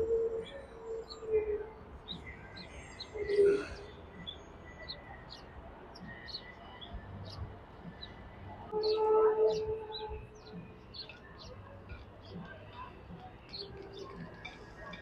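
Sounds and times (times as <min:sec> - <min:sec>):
small birds chirping: 0:02.0 - 0:15.0.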